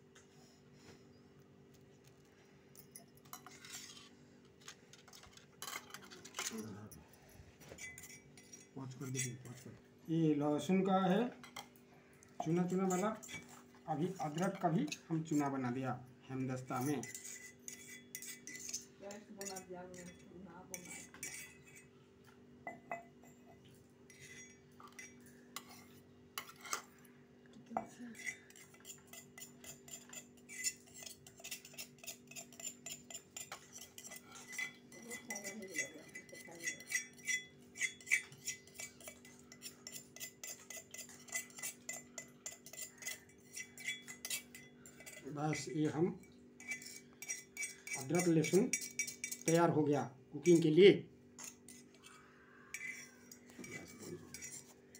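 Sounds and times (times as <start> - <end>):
metal mortar clinking and scraping: 2.8 - 9.8, 12.4 - 21.9, 22.7 - 27.0, 27.8 - 49.8, 51.4 - 52.1, 52.7 - 54.9.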